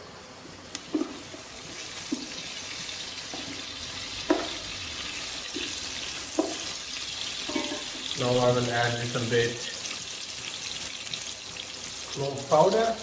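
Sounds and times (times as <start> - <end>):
onions sizzling in hot oil: 0.6 - 13.0.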